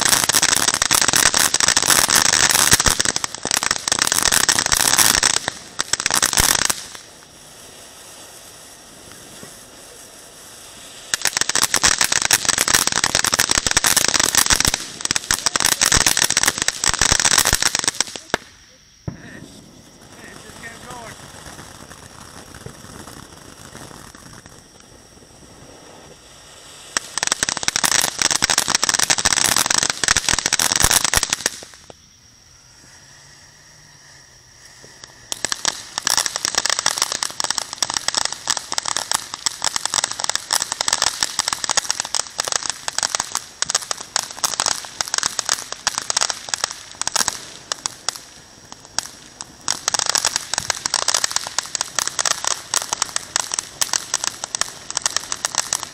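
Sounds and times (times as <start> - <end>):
fireworks crackling: 0.0 - 55.9
fireworks hissing: 0.0 - 55.9.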